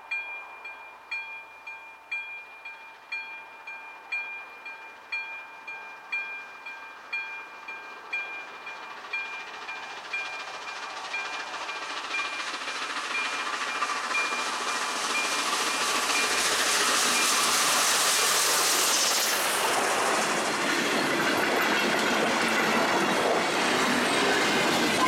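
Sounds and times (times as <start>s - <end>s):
level-crossing warning bell dinging: 0.0s - 12.5s, 13.1s - 17.5s, 21.0s - 25.0s
steam train approaching: 0.0s - 25.0s.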